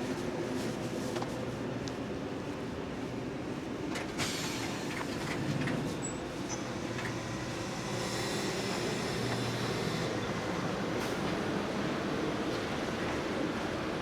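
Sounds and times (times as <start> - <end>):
monorail humming with faint whine: 0.0 - 14.0.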